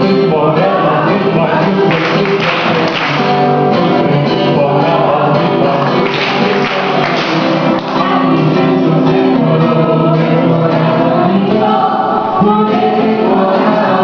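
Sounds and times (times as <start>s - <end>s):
group of voices singing: 0.0s - 14.0s
guitar: 0.0s - 14.0s.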